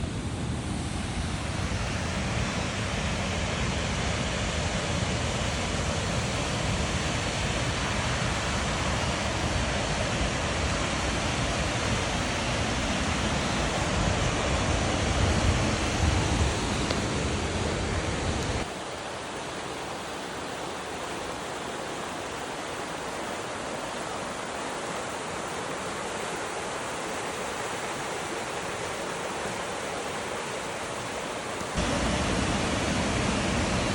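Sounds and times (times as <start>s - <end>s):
waterfall rushing: 1.1s - 33.9s.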